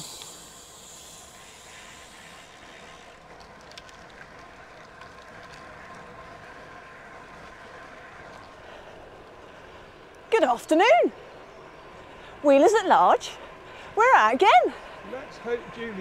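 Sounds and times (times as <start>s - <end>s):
faint steady whine: 0.0s - 16.0s.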